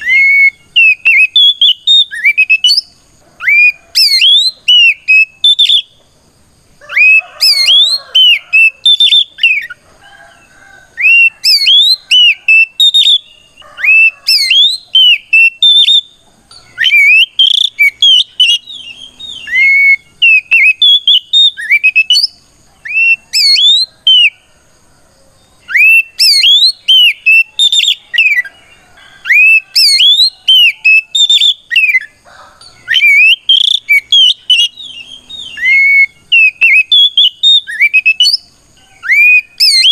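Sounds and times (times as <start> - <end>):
bird singing whistled song: 0.0 - 6.0, 6.9 - 9.8, 10.9 - 24.4, 25.5 - 28.6, 29.2 - 39.9.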